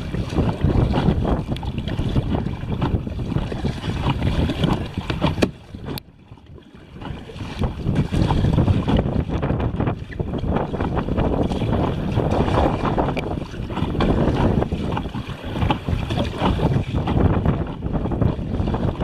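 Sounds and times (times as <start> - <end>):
water sloshing around kayak: 0.0 - 19.0
wind noise on microphone: 0.0 - 19.0.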